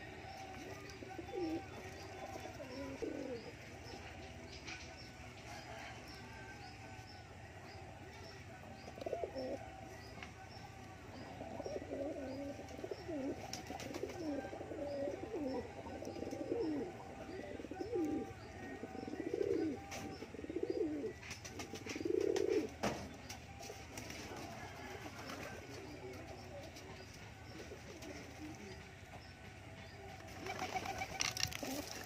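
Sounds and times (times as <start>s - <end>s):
pigeons cooing: 0.0s - 6.3s, 8.6s - 9.8s, 11.0s - 28.8s, 30.3s - 32.0s.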